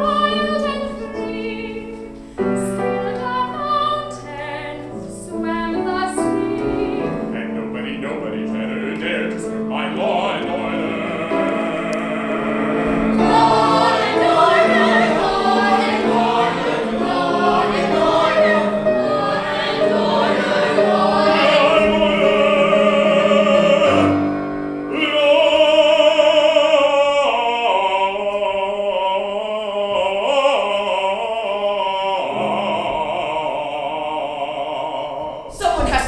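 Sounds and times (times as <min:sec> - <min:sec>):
group of voices singing opera: 0:00.0 - 0:36.0
musical accompaniment: 0:00.0 - 0:36.0.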